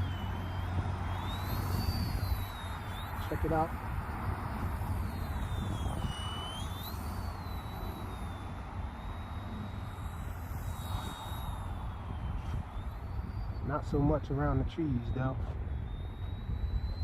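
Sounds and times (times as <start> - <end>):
rc helicopter rotor whine: 0.0 - 17.0.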